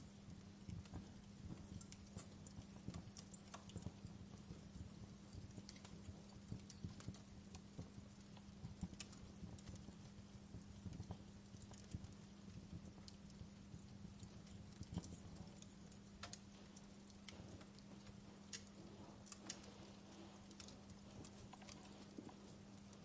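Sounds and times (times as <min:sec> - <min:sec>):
faint low hum: 0:00.0 - 0:23.0
wood fire crackling: 0:00.0 - 0:23.0.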